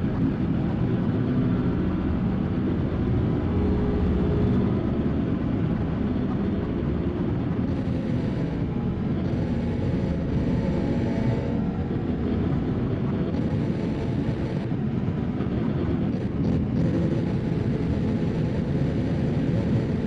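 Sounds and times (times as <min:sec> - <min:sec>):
harsh noise drone: 0:00.0 - 0:20.0.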